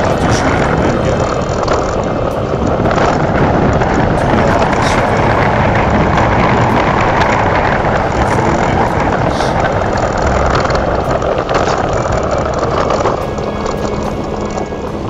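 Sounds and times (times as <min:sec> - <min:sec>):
low engine hum: 0:00.0 - 0:15.0
wind and road noise: 0:00.0 - 0:15.0.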